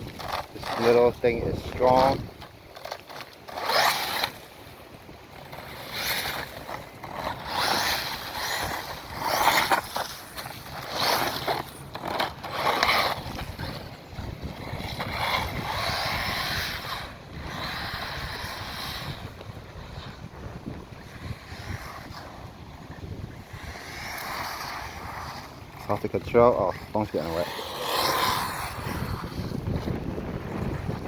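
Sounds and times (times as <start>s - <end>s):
electric toy car motor: 0.0s - 31.0s
tyres on wet ground: 0.0s - 31.0s.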